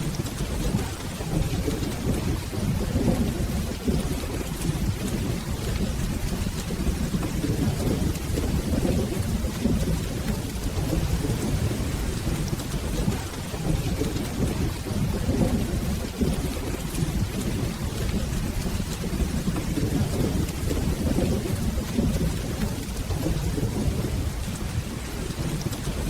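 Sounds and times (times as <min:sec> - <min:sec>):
soft rolling thunder: 0:00.0 - 0:26.0
steady rain: 0:00.0 - 0:26.0.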